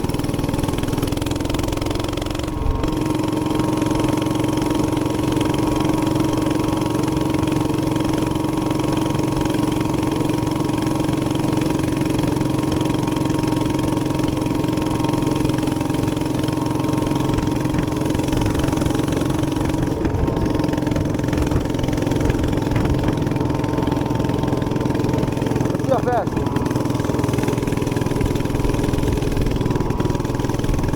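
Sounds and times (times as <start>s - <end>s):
small engine running at high pitch: 0.0s - 30.9s.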